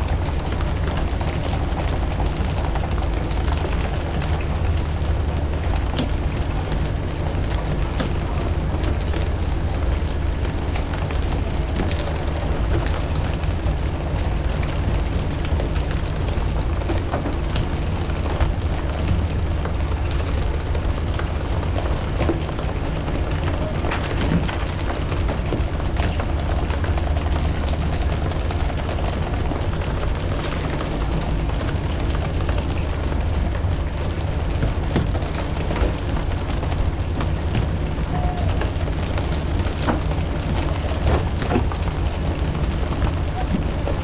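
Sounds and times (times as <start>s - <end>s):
boat engine low rumble: 0.0s - 44.0s.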